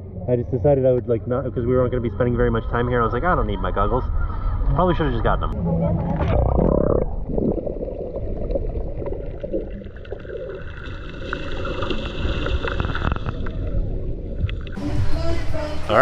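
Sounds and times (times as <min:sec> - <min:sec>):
muffled underwater churning: 0:00.0 - 0:14.8.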